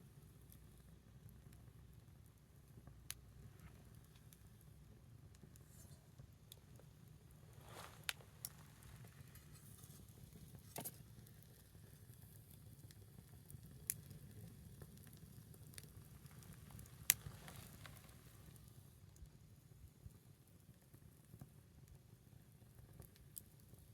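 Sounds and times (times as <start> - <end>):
fire crackling pops: 0.0 - 19.5
wood fire burning: 0.0 - 23.9.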